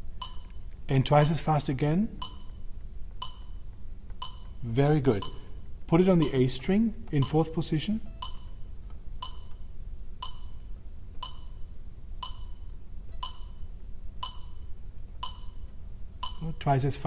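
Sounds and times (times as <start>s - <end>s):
metronome clicking: 0.2s - 0.8s, 2.2s - 16.8s.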